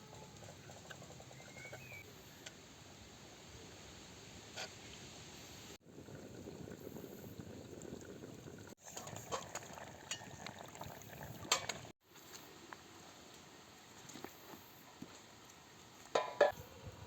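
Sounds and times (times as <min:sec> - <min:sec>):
pot boiling and bubbling: 0:00.0 - 0:16.6.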